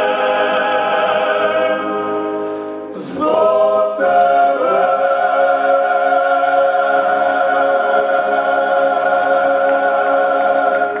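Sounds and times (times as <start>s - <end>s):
male ensemble singing in harmony: 0.0s - 2.0s, 2.9s - 11.0s.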